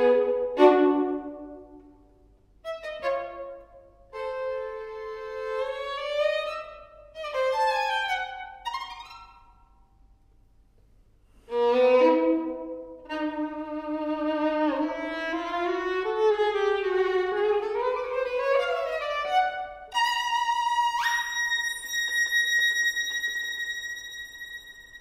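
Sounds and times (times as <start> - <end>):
solo violin with vibrato: 0.0 - 1.8, 2.6 - 9.3, 11.5 - 25.0.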